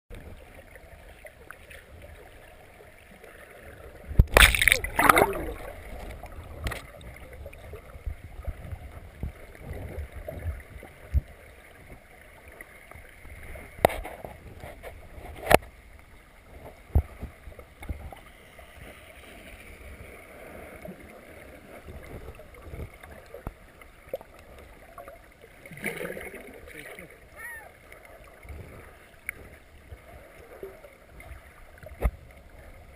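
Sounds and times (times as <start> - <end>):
low watery underwater rumble: 0.1 - 32.9.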